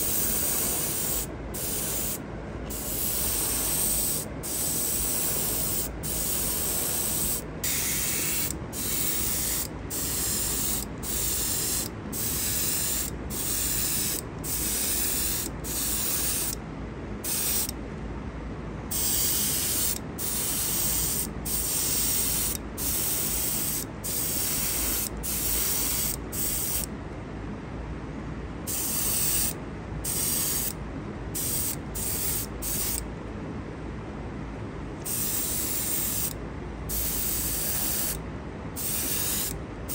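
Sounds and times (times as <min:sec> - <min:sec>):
airbrush spraying hiss: 0:00.0 - 0:16.6, 0:17.2 - 0:17.7, 0:18.9 - 0:26.9, 0:28.7 - 0:30.8, 0:31.4 - 0:33.0, 0:35.0 - 0:38.2, 0:38.8 - 0:39.9
steady low hum: 0:00.0 - 0:39.9.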